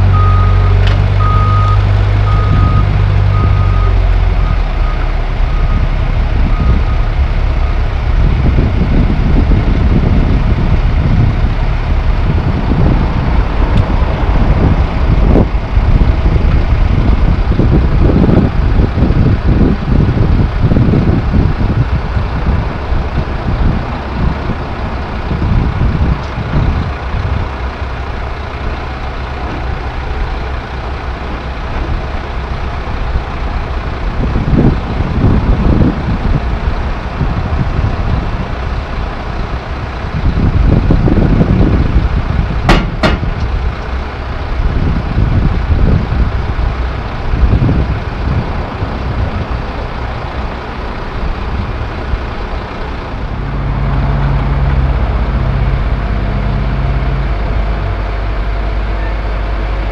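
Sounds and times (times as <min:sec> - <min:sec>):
diesel truck engine idling: 0:00.0 - 0:59.9
steady engine hum: 0:00.0 - 0:59.9.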